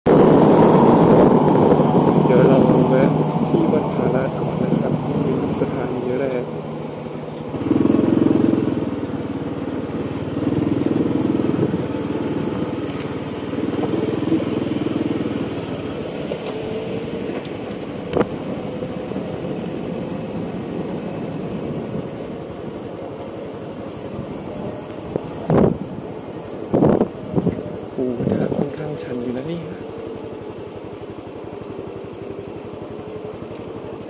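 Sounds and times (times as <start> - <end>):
vehicle engine running: 0.1 - 34.0.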